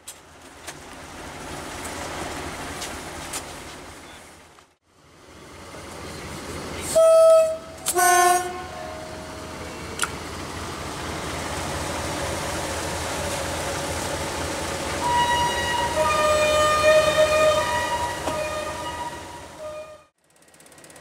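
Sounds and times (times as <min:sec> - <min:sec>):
diesel locomotive running: 0:00.0 - 0:21.0.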